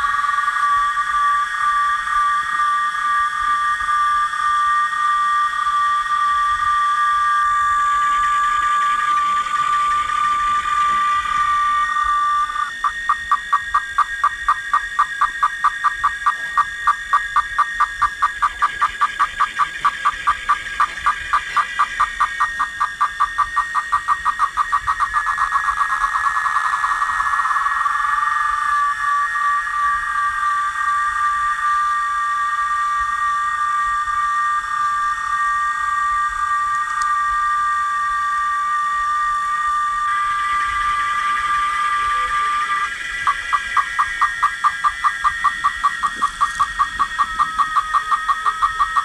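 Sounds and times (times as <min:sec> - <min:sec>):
cicadas singing: 0:00.0 - 0:49.0.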